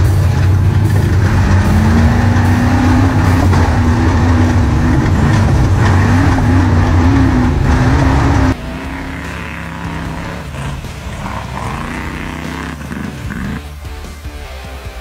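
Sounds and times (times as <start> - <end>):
chassis and road noise: 0.0 - 15.0
distant vehicle: 0.0 - 15.0
truck engine running hard: 0.0 - 15.0.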